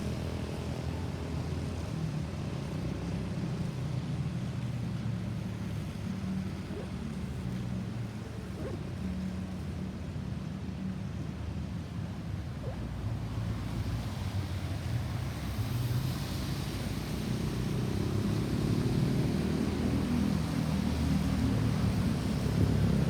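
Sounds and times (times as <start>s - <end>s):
vehicle engine and tyre rumble: 0.0s - 23.0s.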